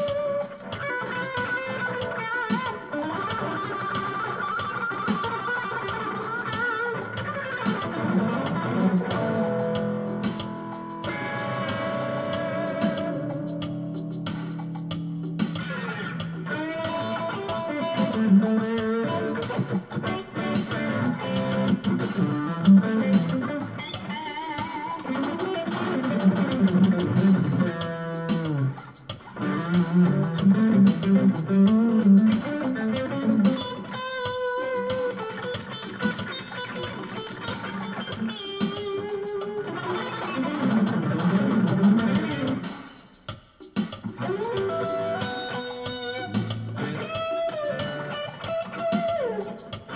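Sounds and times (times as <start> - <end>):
distorted electric guitar lead: 0.0 - 49.9.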